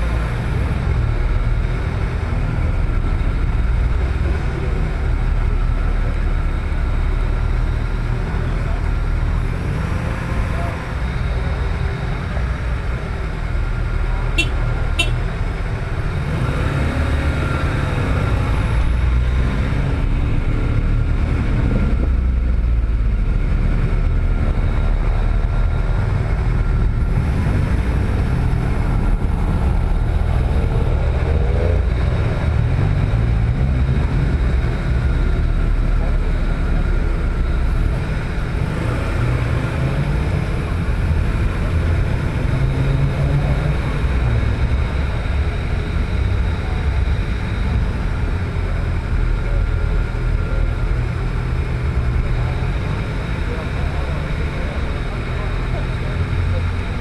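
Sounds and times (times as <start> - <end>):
car engine rumble: 0.0 - 57.0
faint voices: 1.4 - 57.0.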